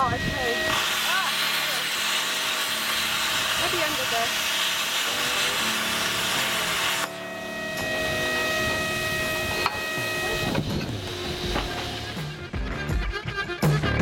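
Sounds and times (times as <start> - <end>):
angle grinder: 0.0 - 12.5.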